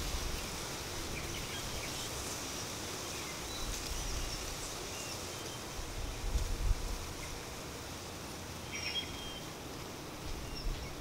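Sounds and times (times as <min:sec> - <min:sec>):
steady high hiss: 0:00.0 - 0:11.0
wind in leaves: 0:00.0 - 0:11.0.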